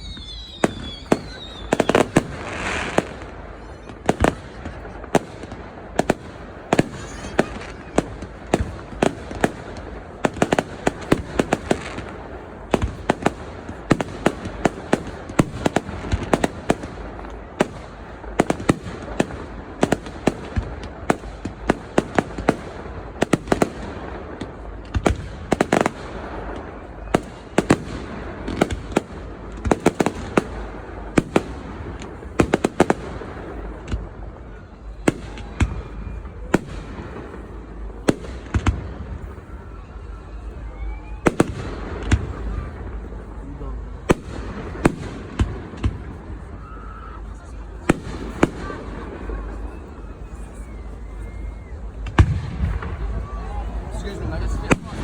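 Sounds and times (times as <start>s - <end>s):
crowd murmur: 0.0s - 55.0s
fireworks bangs and pops: 0.0s - 55.0s.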